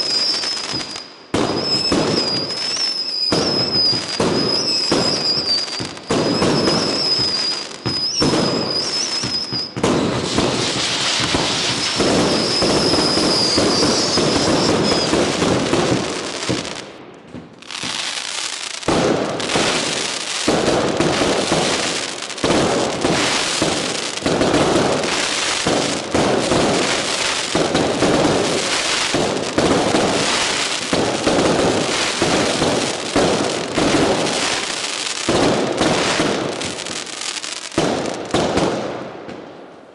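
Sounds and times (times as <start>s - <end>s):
fireworks cracking and bursting: 0.0s - 39.9s
whistling firework: 0.0s - 39.9s.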